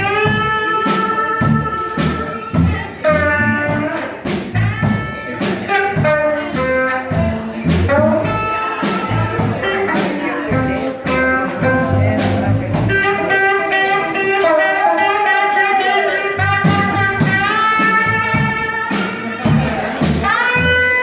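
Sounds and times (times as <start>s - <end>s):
live blues band playing: 0.0s - 21.0s.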